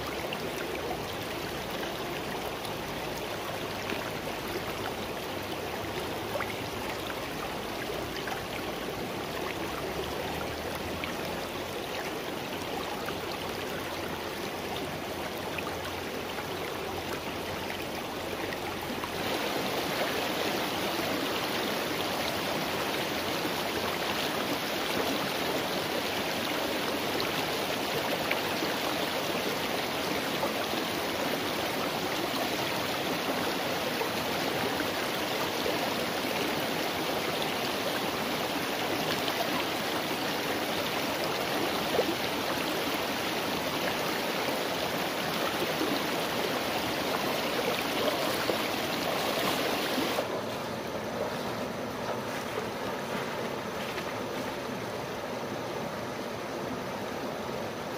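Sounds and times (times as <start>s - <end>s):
stream running over rocks: 0.0s - 57.9s.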